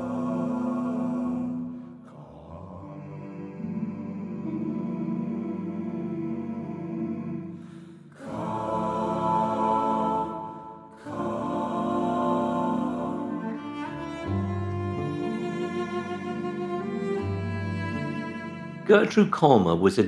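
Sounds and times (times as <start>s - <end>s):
bowed cello chords: 0.0s - 19.8s.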